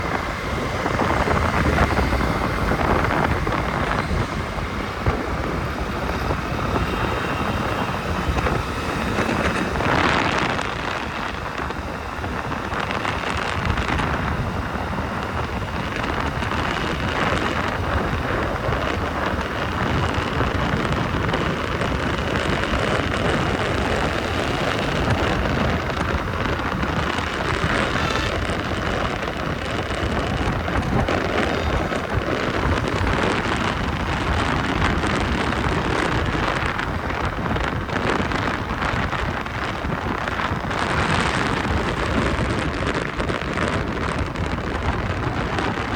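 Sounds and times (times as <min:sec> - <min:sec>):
road and traffic noise: 0:00.0 - 0:45.9
wind rushing over microphone: 0:00.0 - 0:45.9.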